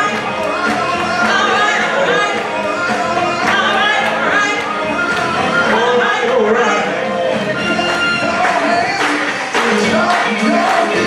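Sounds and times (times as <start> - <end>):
gospel worship song: 0.0 - 11.0.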